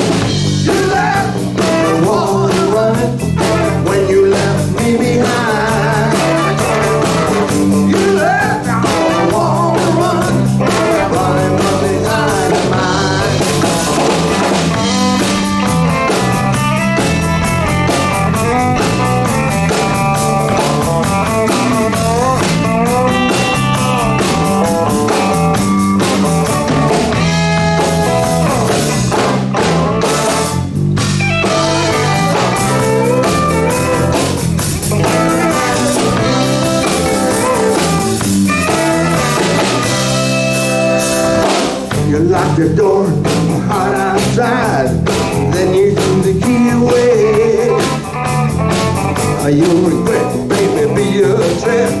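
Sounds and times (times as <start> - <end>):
guitar lead with bending notes: 0.0 - 42.1, 43.2 - 52.0
bass line: 0.0 - 52.0
drums: 0.0 - 52.0.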